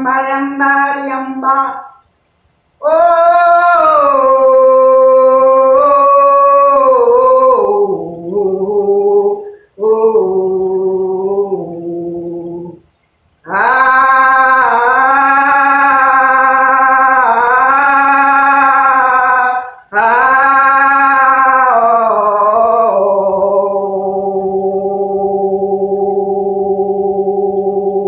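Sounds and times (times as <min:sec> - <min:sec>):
woman chanting long held tones: 0:00.0 - 0:02.0, 0:02.8 - 0:12.8, 0:13.5 - 0:28.0.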